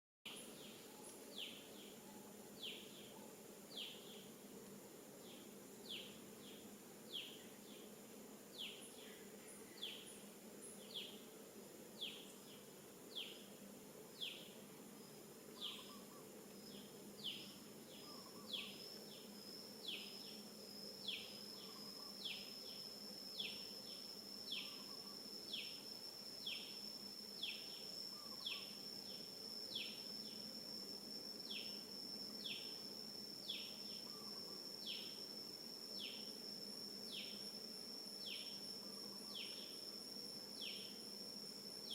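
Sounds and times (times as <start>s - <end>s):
high insect buzz: 0.3s - 41.9s
outdoor background noise: 0.3s - 41.9s.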